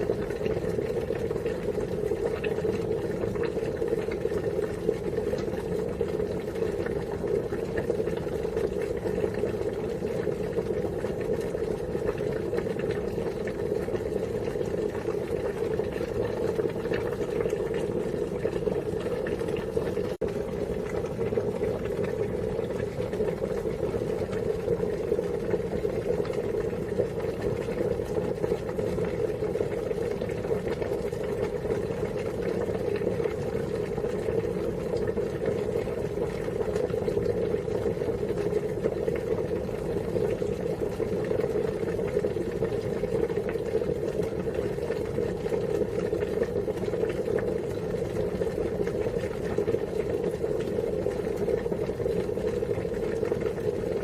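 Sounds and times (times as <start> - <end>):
water boiling: 0.0 - 54.0.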